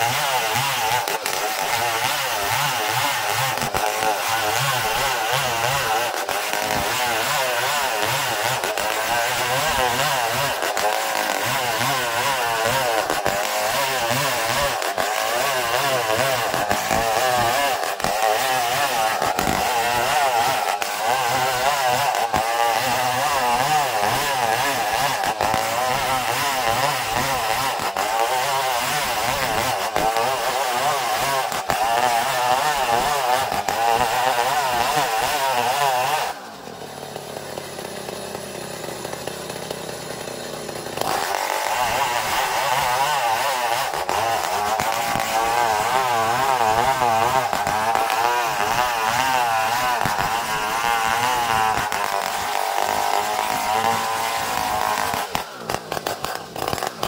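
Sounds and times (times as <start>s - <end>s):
chainsaw cutting wood under load: 0.0s - 57.0s.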